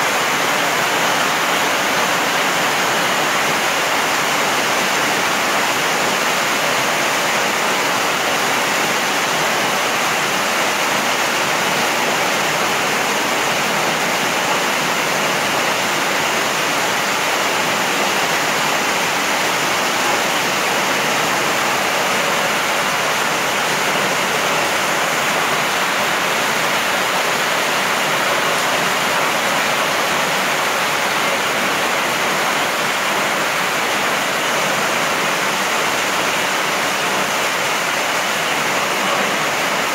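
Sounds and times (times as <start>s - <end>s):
heavy rain splashing on concrete: 0.0s - 39.9s.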